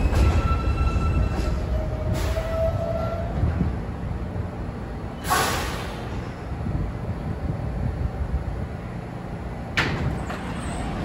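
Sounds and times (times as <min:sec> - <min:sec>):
subway train low rumble: 0:00.0 - 0:11.0.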